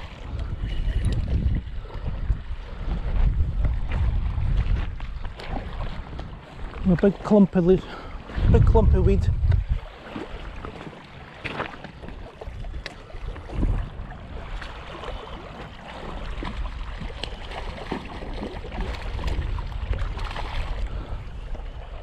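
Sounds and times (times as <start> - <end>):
water splashing and sloshing: 0.0 - 22.0
wind rumbling on microphone: 0.0 - 22.0.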